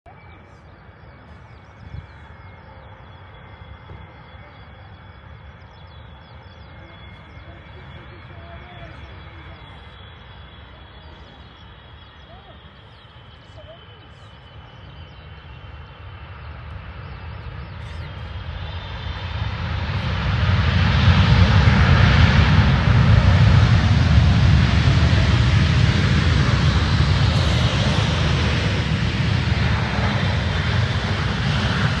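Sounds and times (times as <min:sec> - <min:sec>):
jet engines rumbling: 0:00.1 - 0:32.0.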